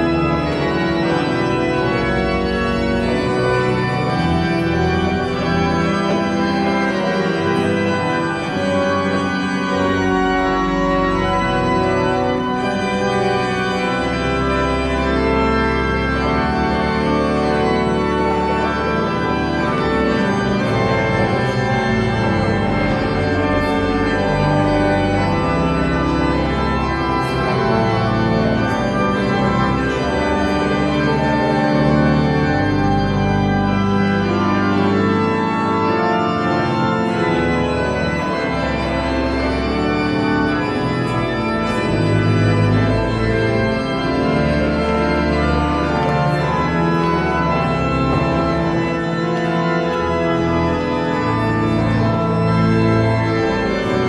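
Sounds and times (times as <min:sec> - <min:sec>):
organ chords: 0:00.0 - 0:54.0.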